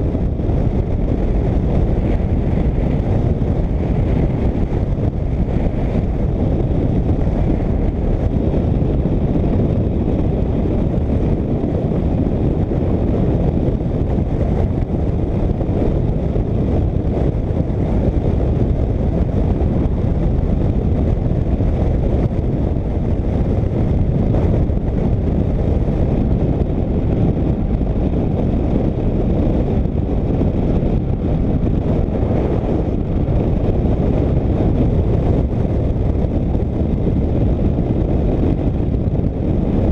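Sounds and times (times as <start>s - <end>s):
motorcycle engine rumble: 0.0s - 39.9s
wind rushing over microphone: 0.0s - 39.9s.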